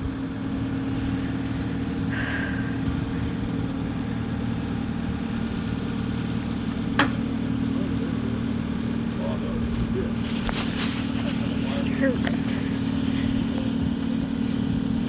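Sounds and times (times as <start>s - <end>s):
machine engine idling: 0.0s - 15.0s.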